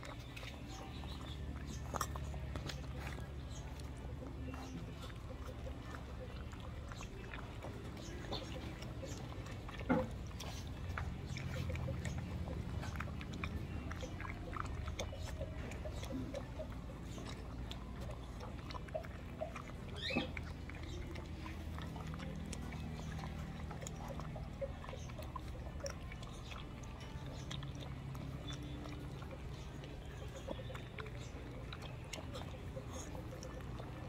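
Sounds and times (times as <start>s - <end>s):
puppy crunching dry kibble: 0.0s - 34.0s.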